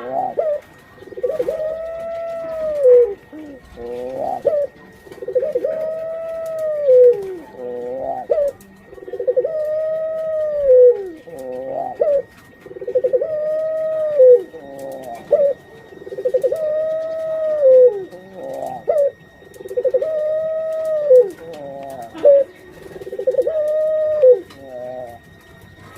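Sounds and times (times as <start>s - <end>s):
dove cooing: 0.0s - 25.9s.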